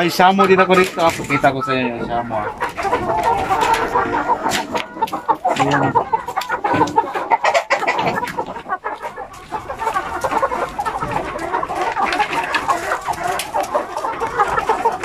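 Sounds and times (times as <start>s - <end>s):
chickens clucking and calling: 0.0s - 15.0s.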